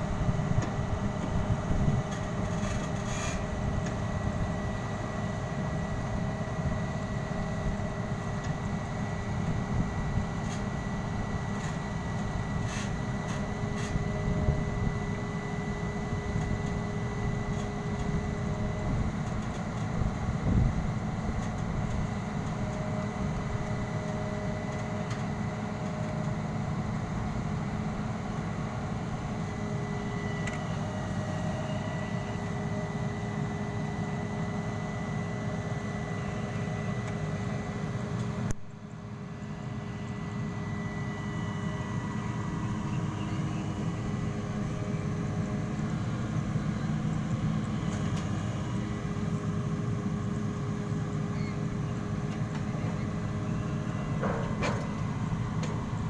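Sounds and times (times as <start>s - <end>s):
drilling rig diesel engine running: 0.0s - 56.0s.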